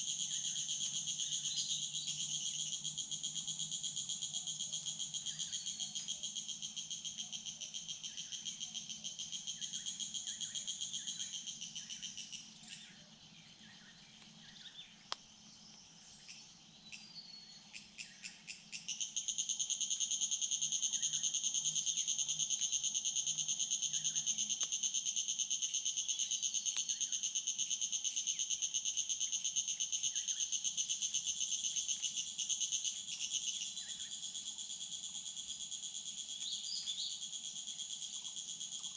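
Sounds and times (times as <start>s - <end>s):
insect ticks: 0.0s - 12.8s, 15.0s - 17.0s, 17.7s - 38.9s
insect chorus trilling: 0.0s - 38.9s.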